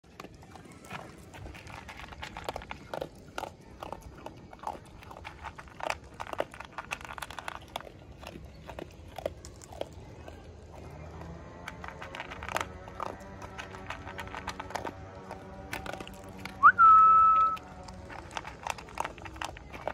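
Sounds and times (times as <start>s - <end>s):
dog chewing from plastic bowl: 0.0s - 19.9s.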